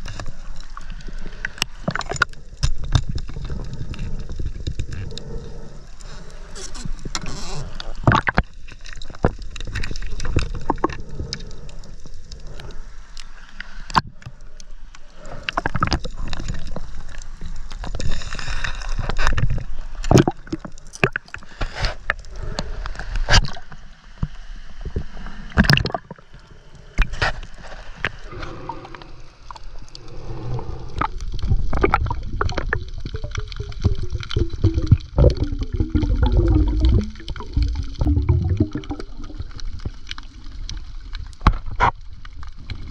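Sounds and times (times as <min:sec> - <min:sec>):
water sloshing and gurgling: 0:00.0 - 0:42.9.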